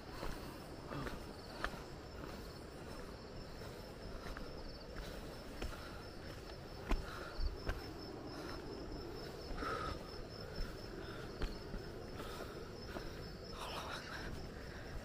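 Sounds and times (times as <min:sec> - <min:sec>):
crickets chirring: 0:00.0 - 0:15.0
footsteps on dirt path: 0:00.0 - 0:15.0
short low insect calls: 0:00.0 - 0:15.0.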